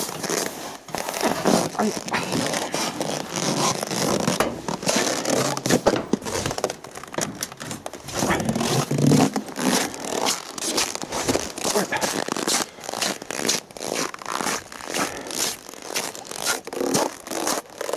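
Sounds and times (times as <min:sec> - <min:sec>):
footsteps crunching in snow: 0:00.0 - 0:17.9
winter clothing rustling: 0:00.0 - 0:17.9.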